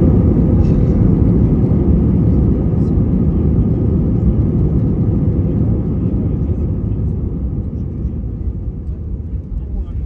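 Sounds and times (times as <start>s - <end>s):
deep aircraft cabin rumble: 0.0s - 10.0s.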